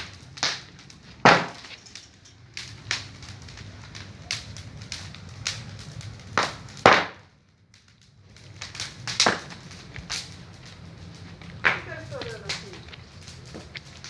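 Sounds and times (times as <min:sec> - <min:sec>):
bonfire rumbling: 0:00.0 - 0:14.0
fire cracks and pops: 0:00.0 - 0:14.0.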